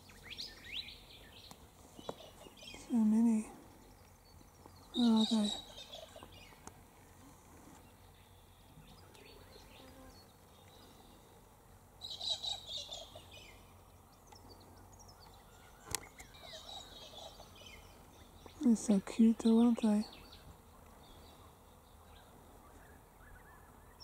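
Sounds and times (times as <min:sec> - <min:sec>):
faint bird calls: 0:00.0 - 0:11.4, 0:12.0 - 0:24.0.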